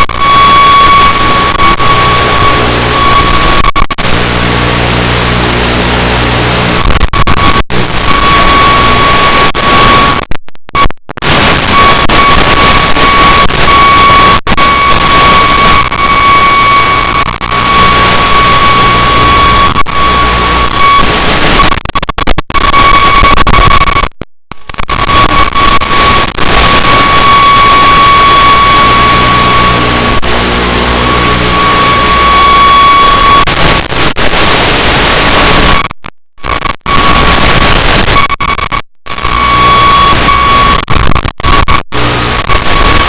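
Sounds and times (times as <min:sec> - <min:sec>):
loud static hiss: 0:00.0 - 0:43.0.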